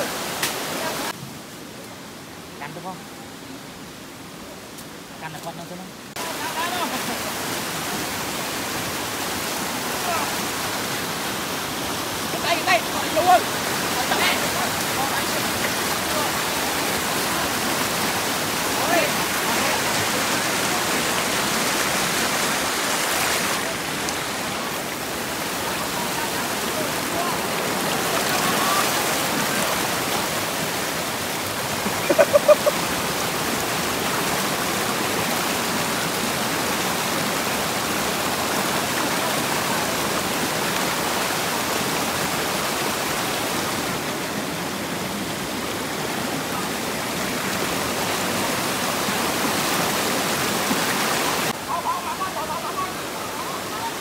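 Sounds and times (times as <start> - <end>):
water rushing in stream: 0.0 - 54.0.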